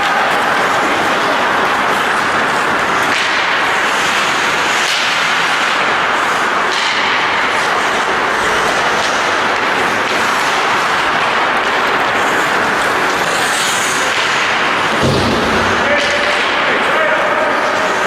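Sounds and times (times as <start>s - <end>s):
ice rink crowd noise: 0.0s - 18.0s.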